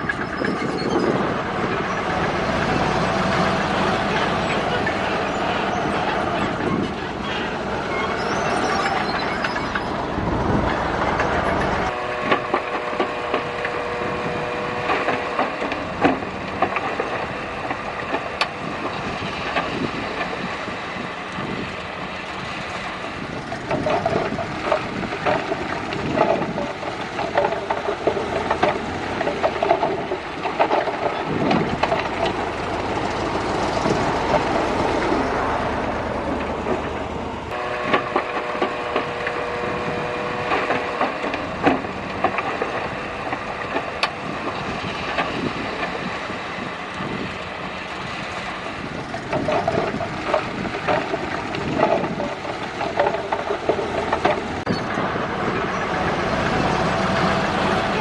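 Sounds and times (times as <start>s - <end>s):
diesel engine rumble: 0.0s - 58.0s
steel tracks clanking and squealing: 0.0s - 58.0s.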